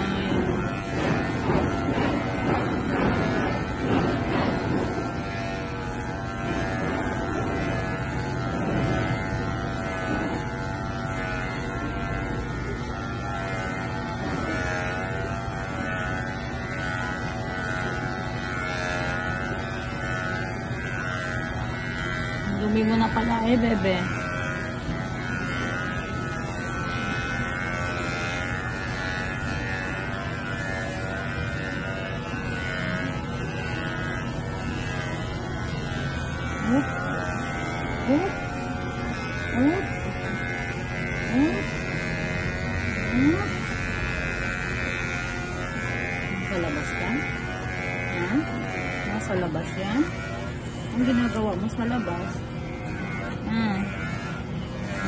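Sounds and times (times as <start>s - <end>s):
electric hair clippers humming: 0.0s - 55.0s.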